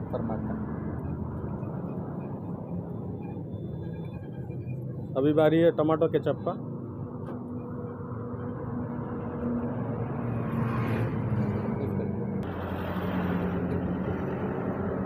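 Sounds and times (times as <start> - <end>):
motor traffic rumble: 0.0 - 15.0.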